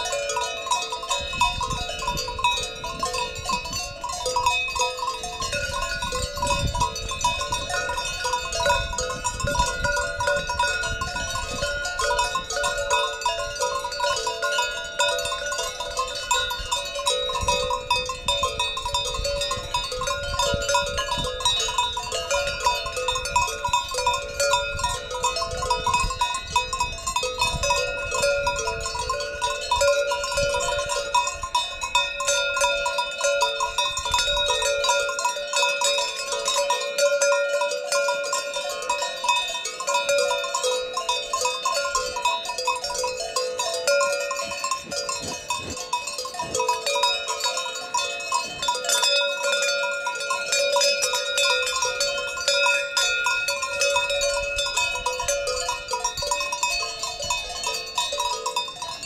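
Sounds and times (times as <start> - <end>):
cowbells clanking: 0.0 - 59.0.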